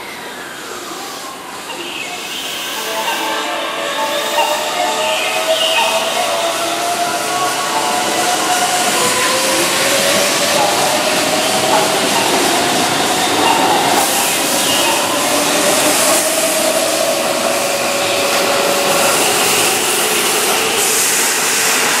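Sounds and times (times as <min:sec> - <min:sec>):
train rolling noise: 0:00.0 - 0:22.0.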